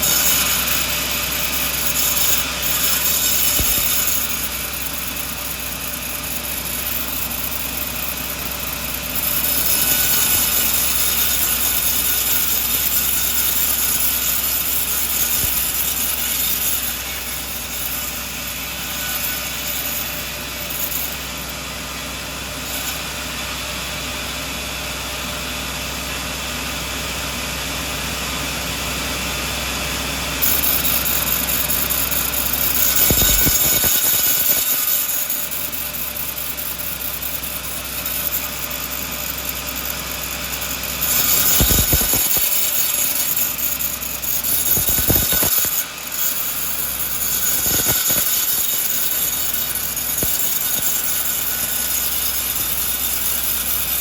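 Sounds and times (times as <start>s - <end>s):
saw hissing through log: 0.0s - 23.7s, 30.3s - 54.0s
sawmill running: 0.0s - 54.0s.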